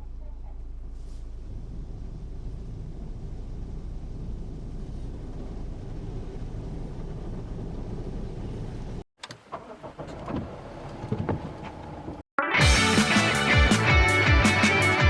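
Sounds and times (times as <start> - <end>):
car engine rumble: 0.0 - 12.2.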